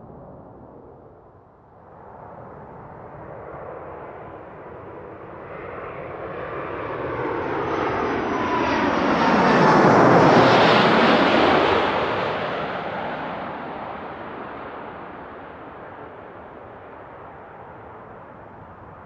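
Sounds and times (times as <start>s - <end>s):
jet airliner flying overhead: 0.0s - 19.0s
jet engine whine: 0.0s - 19.0s.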